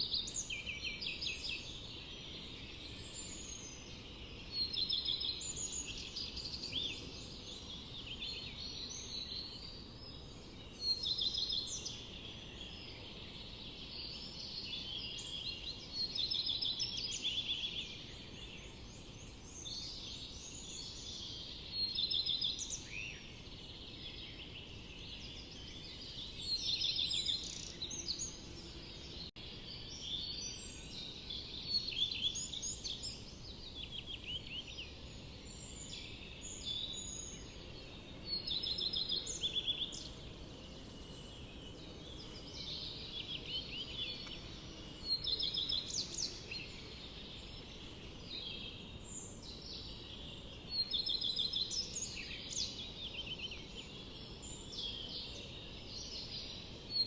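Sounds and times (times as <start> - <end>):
low background hiss: 0.0 - 57.0
songbirds singing: 0.0 - 57.0.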